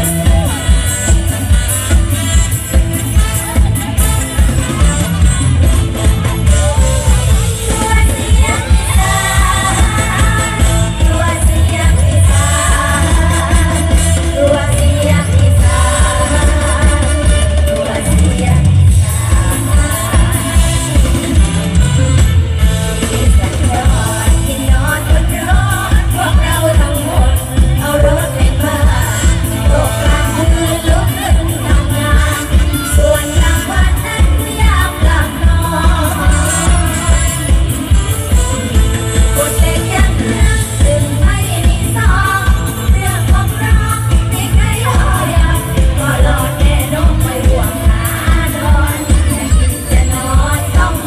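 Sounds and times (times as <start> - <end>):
bass drum beat: 0.0 - 51.0
live band music with woman singing: 0.0 - 51.0.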